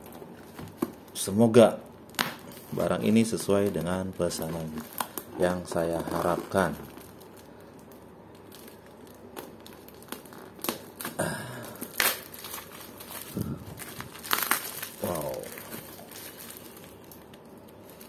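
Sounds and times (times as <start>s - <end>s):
plastic wrapping crinkling and tearing: 0.0s - 18.0s.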